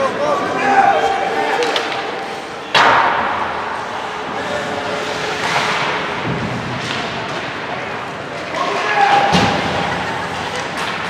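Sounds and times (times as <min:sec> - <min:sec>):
rink and crowd noise: 0:00.0 - 0:11.0.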